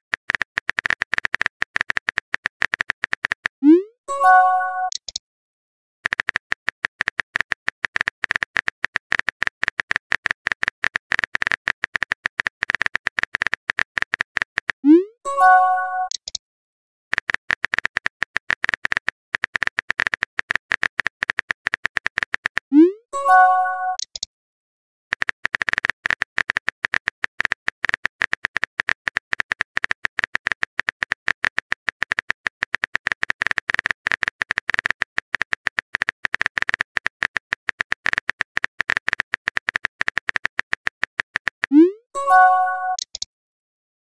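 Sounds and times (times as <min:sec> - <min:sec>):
phone keyboard typing clicks: 0:00.1 - 0:03.6, 0:04.2 - 0:05.2, 0:06.0 - 0:16.4, 0:17.1 - 0:22.7, 0:23.3 - 0:24.3, 0:25.1 - 0:43.3.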